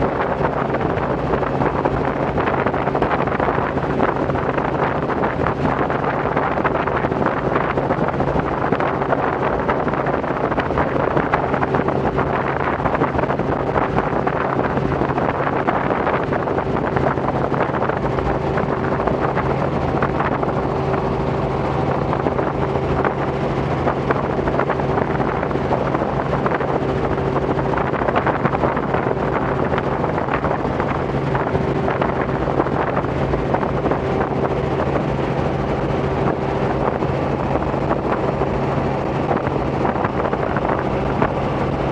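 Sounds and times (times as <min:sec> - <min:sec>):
helicopter engine and rotor drone: 0:00.0 - 0:41.9
wind buffeting microphone: 0:00.0 - 0:41.9.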